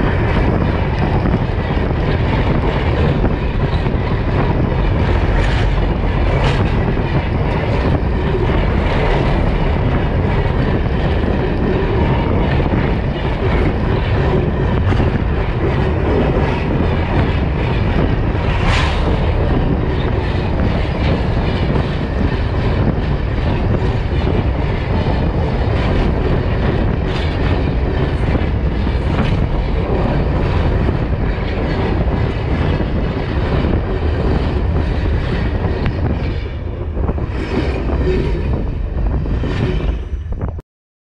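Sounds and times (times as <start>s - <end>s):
train wheels rumbling on rails: 0.0s - 40.6s.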